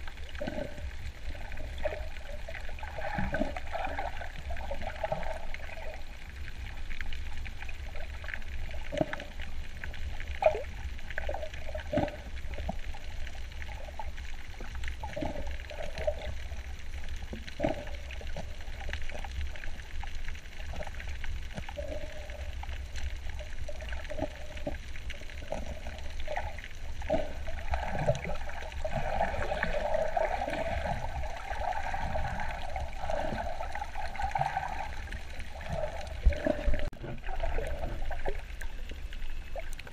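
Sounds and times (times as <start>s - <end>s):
gurgling and trickling water: 0.0s - 39.9s
underwater low rumble: 0.0s - 39.9s.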